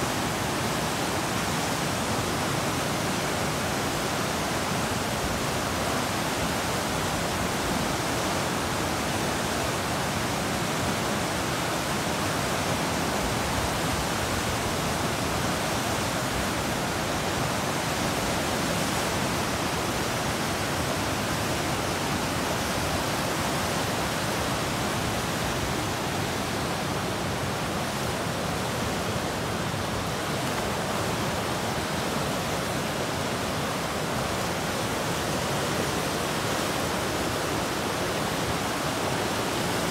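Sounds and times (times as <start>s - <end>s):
river rushing below a weir: 0.0s - 39.9s.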